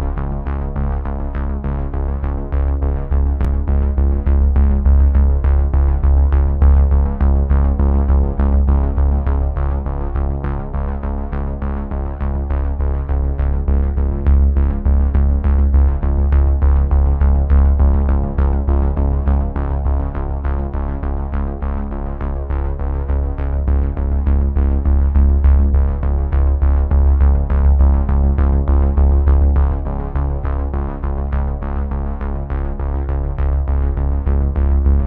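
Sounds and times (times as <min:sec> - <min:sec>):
music with deep bass: 0:00.0 - 0:35.0.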